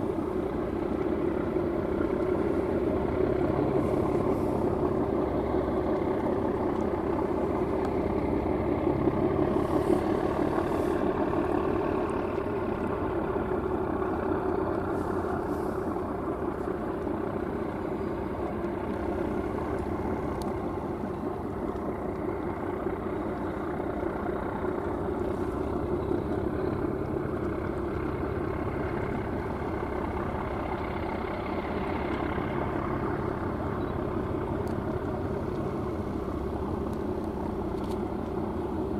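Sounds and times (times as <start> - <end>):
ship diesel engines droning: 0.0 - 38.9.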